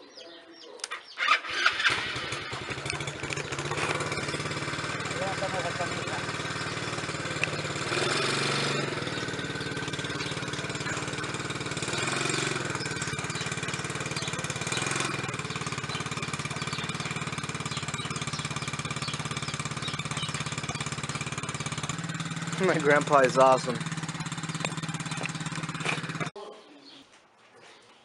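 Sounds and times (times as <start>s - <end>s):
quad bike engine idling: 1.0s - 26.4s.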